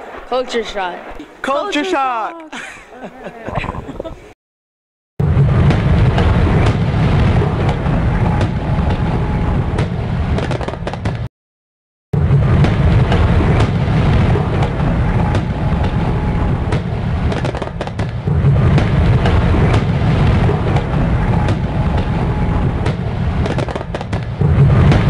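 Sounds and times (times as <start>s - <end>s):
fireworks booming: 0.0s - 2.1s, 5.2s - 11.3s, 12.2s - 25.0s
fireworks crackling and popping: 0.0s - 2.2s, 5.2s - 11.3s, 12.2s - 25.0s.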